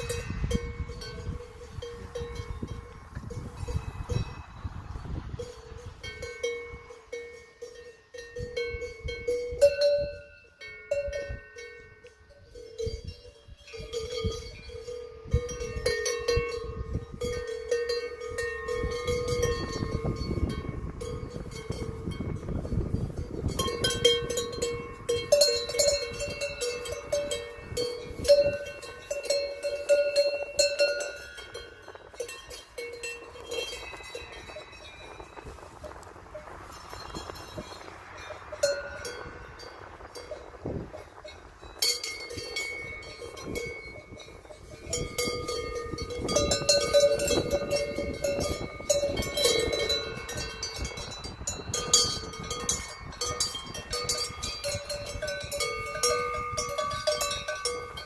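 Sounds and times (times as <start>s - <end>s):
cowbells clanking: 0.0s - 58.0s.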